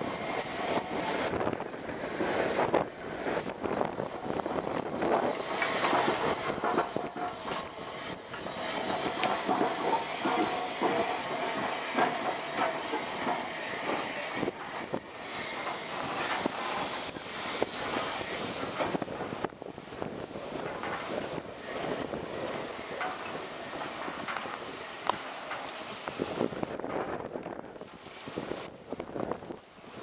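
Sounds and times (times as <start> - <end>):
steam locomotive hissing steam: 0.0 - 26.9
wheels knocking and clattering: 0.7 - 28.0.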